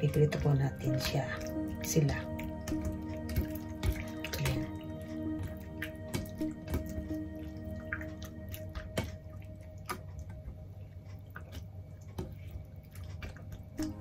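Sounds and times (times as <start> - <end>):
hands squelching raw meat: 0.0 - 14.0.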